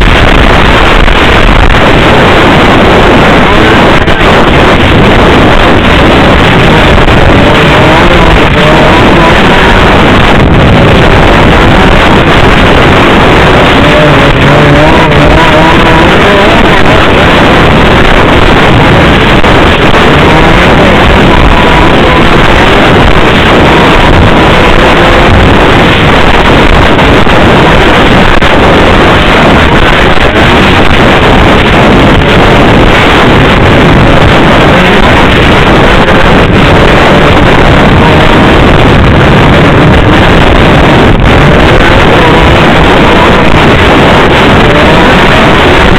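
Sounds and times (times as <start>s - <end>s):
dense rushing noise: 0.0s - 45.9s
snowmobile engine running: 0.0s - 45.9s.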